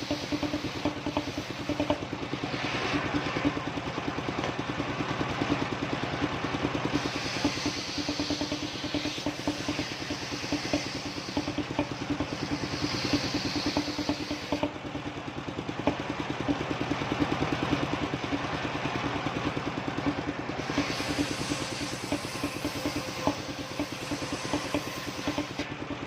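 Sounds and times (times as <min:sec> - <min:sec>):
sawmill engine beating: 0:00.0 - 0:26.0.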